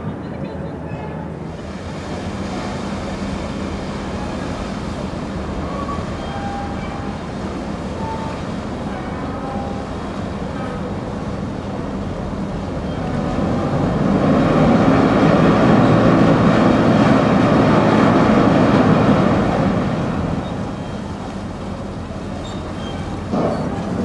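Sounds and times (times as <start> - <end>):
boat diesel engine churning: 0.0 - 24.0.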